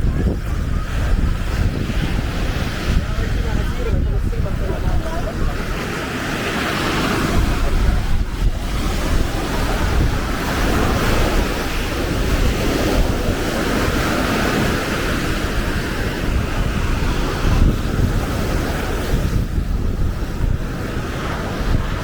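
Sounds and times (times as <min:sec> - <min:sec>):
waves washing onto a beach: 0:00.0 - 0:22.0
wind buffeting the microphone: 0:00.0 - 0:22.0.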